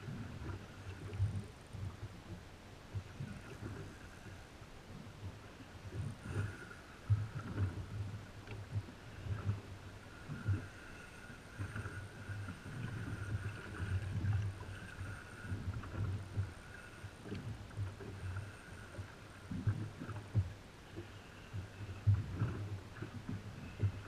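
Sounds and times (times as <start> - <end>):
water slapping against a hull: 0.0 - 4.3, 4.9 - 24.0.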